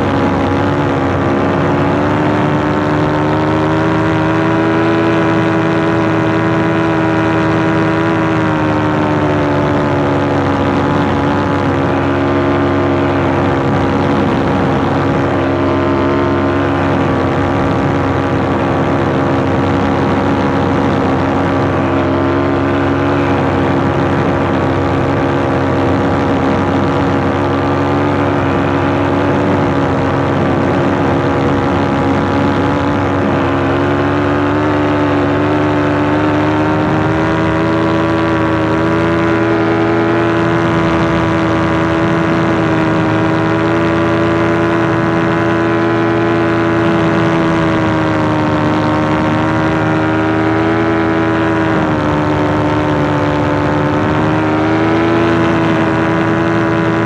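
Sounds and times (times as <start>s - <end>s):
paramotor engine droning: 0.0s - 57.0s.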